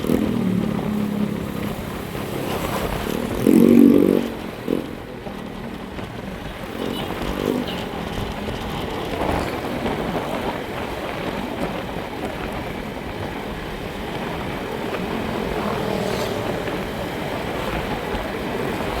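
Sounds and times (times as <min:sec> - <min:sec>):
vehicle engine drone: 0:00.0 - 0:19.0
wind and road hiss: 0:00.0 - 0:19.0.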